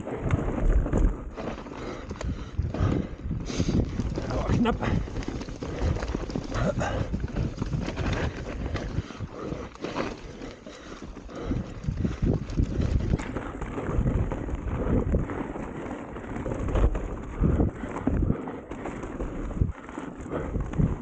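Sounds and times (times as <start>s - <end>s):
bike rumbling and rattling: 0.0s - 21.0s
wind buffeting microphone: 0.0s - 21.0s.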